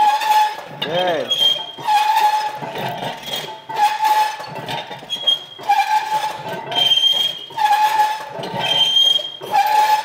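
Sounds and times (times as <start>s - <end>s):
exercise machine metal squeaks: 0.0s - 10.0s.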